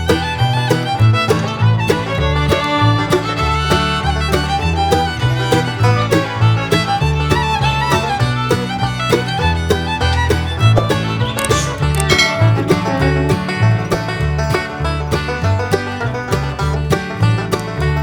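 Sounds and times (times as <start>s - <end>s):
bass line: 0.0s - 18.0s
fiddle: 0.0s - 18.0s
plucked strings: 0.0s - 18.0s.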